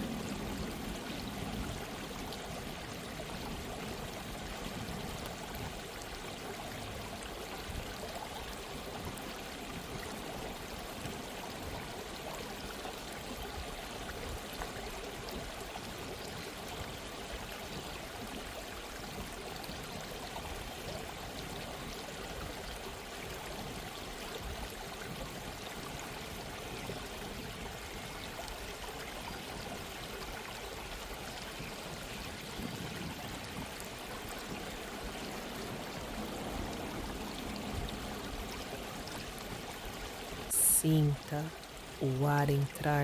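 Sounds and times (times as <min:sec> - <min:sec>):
stream trickling over stones: 0:00.0 - 0:43.0.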